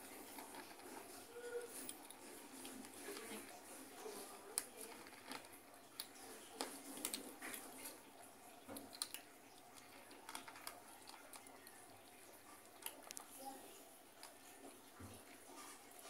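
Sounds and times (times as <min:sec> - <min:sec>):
kittens crunching dry food: 0:00.0 - 0:16.0.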